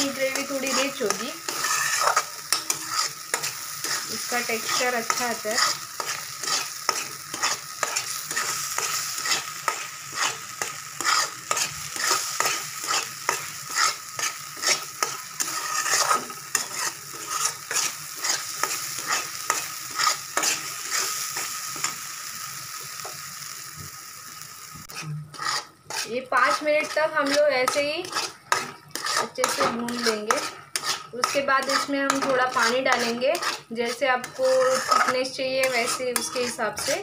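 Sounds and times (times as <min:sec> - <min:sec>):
metal spatula scraping a pan: 0:00.0 - 0:22.1, 0:24.8 - 0:37.0
oil sizzling: 0:00.0 - 0:37.0.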